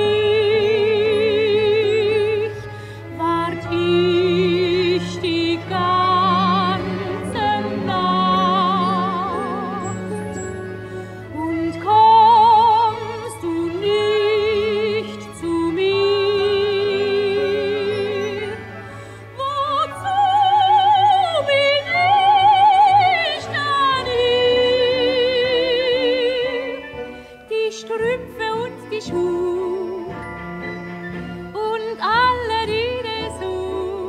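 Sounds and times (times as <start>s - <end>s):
orchestral accompaniment: 0.0s - 34.0s
tenor and soprano singing: 0.0s - 34.0s.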